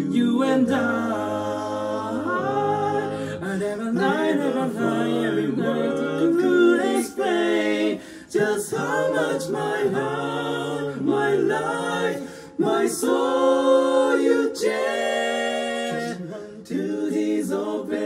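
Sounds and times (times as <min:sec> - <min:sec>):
men singing in close harmony: 0:00.0 - 0:18.0.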